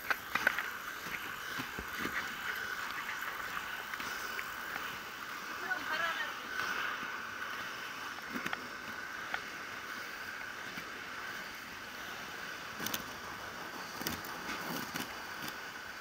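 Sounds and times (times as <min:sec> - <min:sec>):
tyre noise on pavement: 0:00.0 - 0:16.0.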